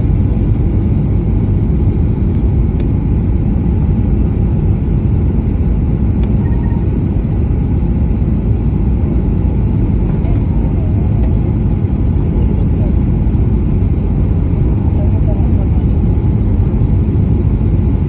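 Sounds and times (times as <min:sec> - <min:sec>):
airliner landing rumble: 0:00.0 - 0:18.0.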